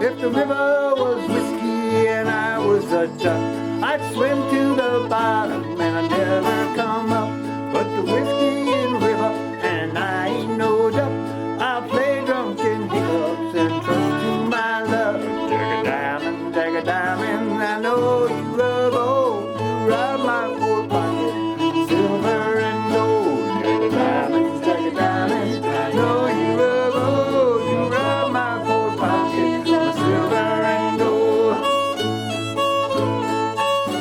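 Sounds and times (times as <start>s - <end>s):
banjo: 0.0s - 34.0s
fiddle melody: 0.0s - 34.0s
guitar accompaniment: 0.0s - 34.0s.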